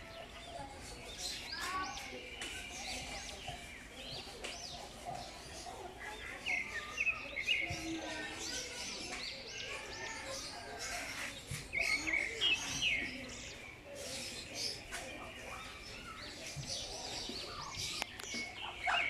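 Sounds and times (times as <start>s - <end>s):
lovebirds chirping: 0.0s - 19.0s.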